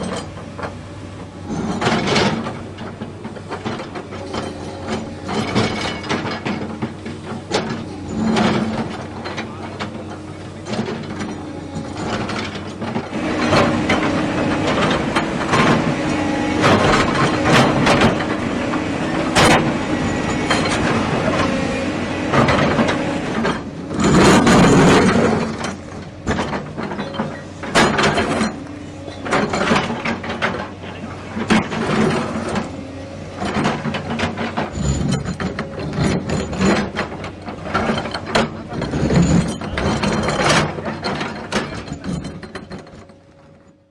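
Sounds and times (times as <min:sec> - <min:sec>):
demolition machinery engine hum: 0:00.0 - 0:43.9
irregular knocks and clanks: 0:01.5 - 0:43.3.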